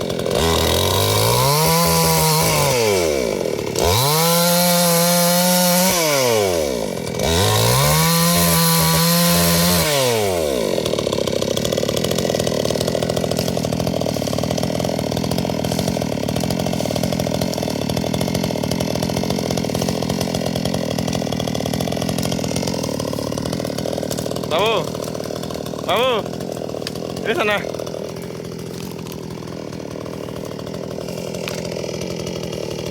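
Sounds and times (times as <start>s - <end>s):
chainsaw revving and idling: 0.0s - 32.9s.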